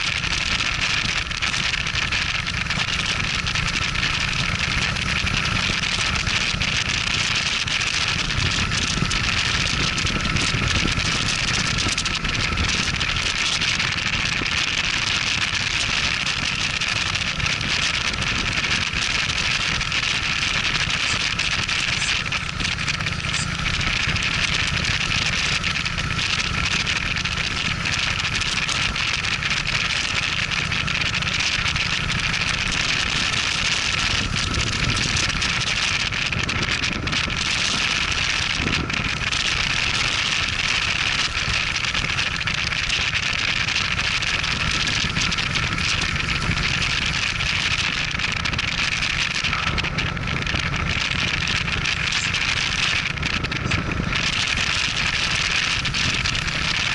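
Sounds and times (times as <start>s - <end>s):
motorcycle engine running: 0.0s - 56.9s
wind rushing over microphone: 0.0s - 56.9s.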